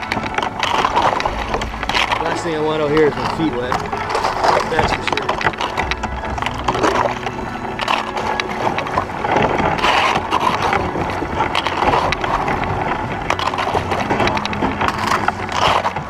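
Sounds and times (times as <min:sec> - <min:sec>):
ice knocking and crackling: 0:00.0 - 0:16.0
kayak hull scraping through ice: 0:00.0 - 0:16.0.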